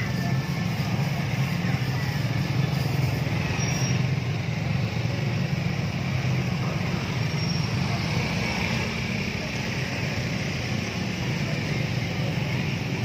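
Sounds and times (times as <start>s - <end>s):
scooters and motorcycles riding past: 0.0s - 13.0s.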